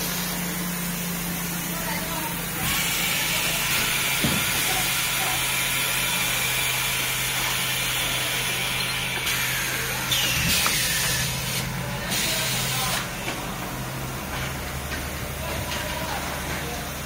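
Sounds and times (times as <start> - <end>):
packing machine hum and hiss: 0.0 - 17.0.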